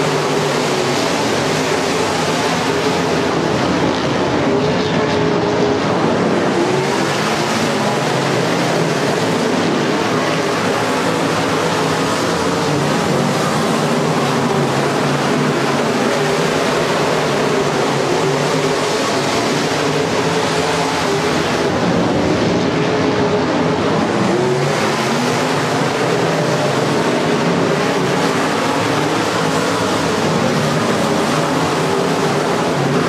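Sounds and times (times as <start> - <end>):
race car engines droning: 0.0 - 33.0.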